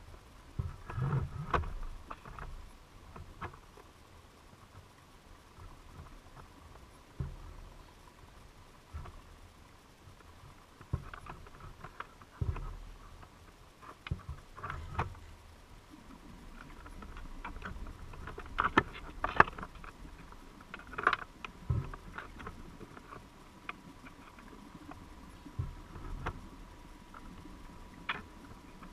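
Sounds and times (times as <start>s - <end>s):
faint steady tone: 0.0s - 28.9s.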